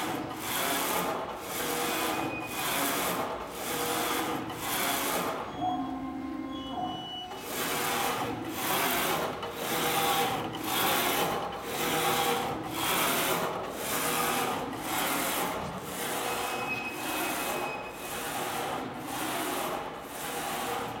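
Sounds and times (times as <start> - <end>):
printer carriage whirring: 0.0 - 21.0.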